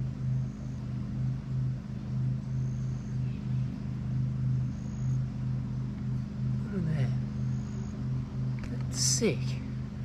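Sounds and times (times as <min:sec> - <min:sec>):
low throbbing drone: 0:00.0 - 0:10.0.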